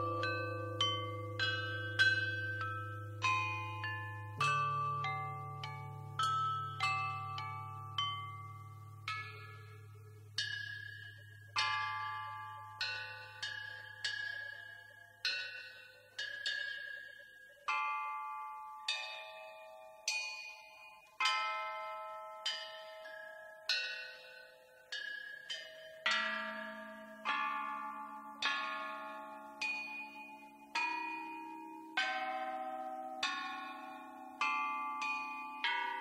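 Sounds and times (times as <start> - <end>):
bell-like struck notes: 0.0 - 36.0.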